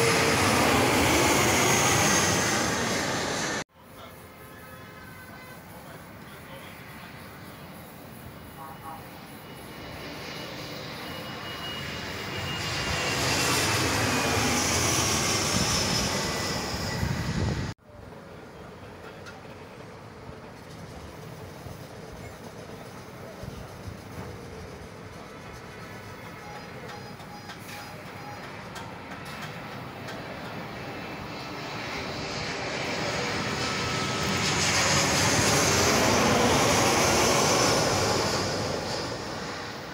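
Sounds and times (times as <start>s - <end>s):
jet engine whine falling in pitch: 0.0s - 3.6s, 5.6s - 17.7s, 18.6s - 39.9s
jet flying low overhead: 0.0s - 39.9s.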